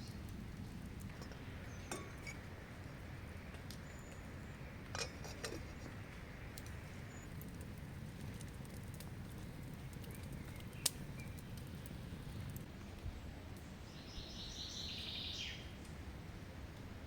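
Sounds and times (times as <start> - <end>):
low outdoor background noise: 0.0 - 17.0.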